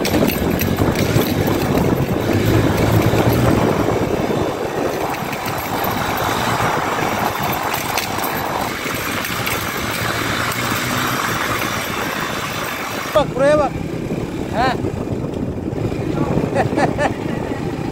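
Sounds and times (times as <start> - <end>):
motorcycle engine running: 0.0 - 17.9
wind on microphone: 0.0 - 17.9.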